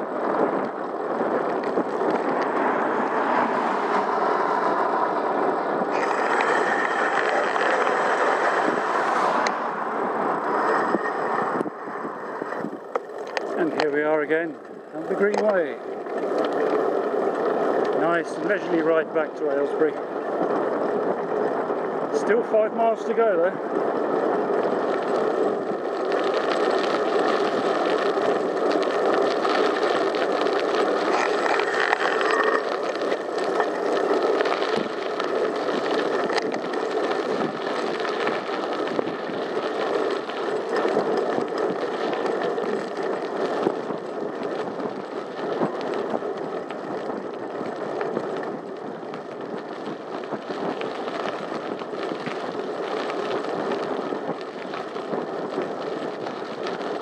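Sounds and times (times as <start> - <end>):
bicycle tyres rolling on tarmac: 0.0 - 57.0
small bicycle clicks and rattles: 0.0 - 57.0.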